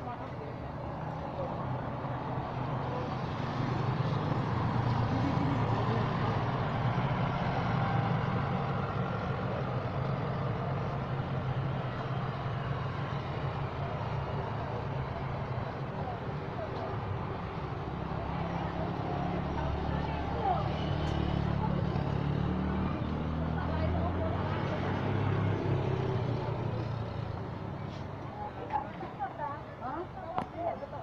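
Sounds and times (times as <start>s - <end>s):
heavy vehicle engine droning: 0.0s - 29.0s.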